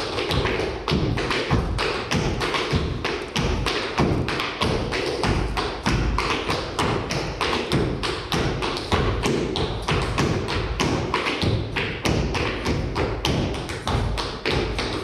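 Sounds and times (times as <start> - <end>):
clog shoes tapping on wooden floor: 0.0 - 15.0.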